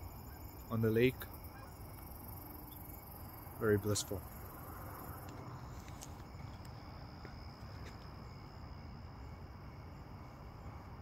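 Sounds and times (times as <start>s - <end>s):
crickets trilling: 0.0s - 11.0s
low constant rumble: 0.0s - 11.0s.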